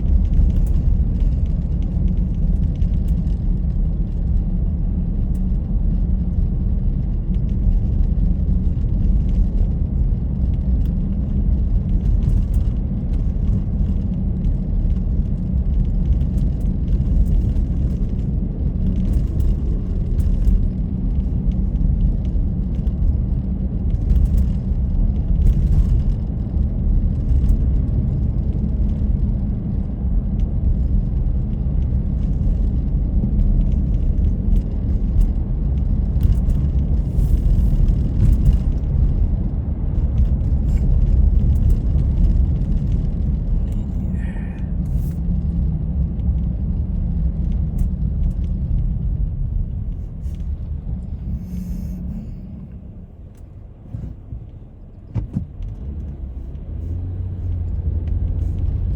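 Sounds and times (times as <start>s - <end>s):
car driving rumble: 0.0s - 58.9s
road and wind noise: 0.0s - 58.9s.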